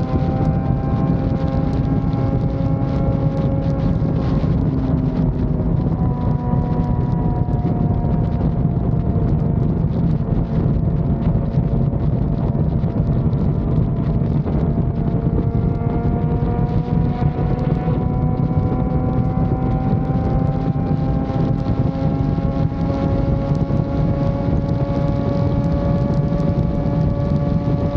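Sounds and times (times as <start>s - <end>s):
motorcycle engine cruising: 0.0s - 27.9s
wind rumble on microphone: 0.0s - 27.9s.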